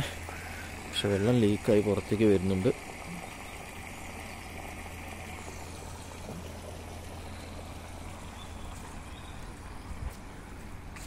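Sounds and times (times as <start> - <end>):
floodwater flowing and trickling: 0.0 - 11.0
low steady rumble: 0.0 - 11.0.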